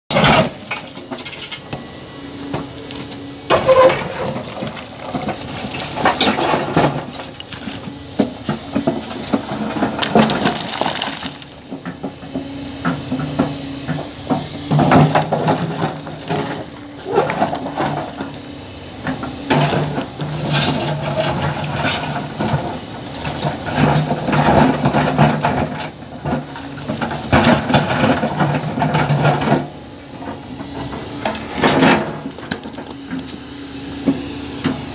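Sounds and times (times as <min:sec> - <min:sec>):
excavator diesel engine: 0:00.1 - 0:34.9.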